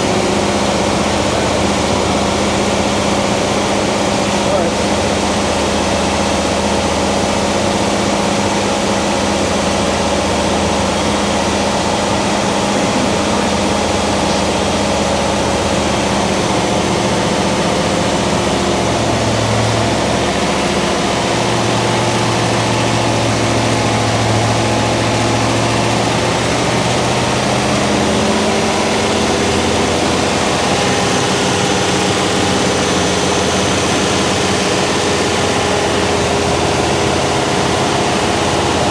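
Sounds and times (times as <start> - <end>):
car engine running steadily: 0.0 - 38.9.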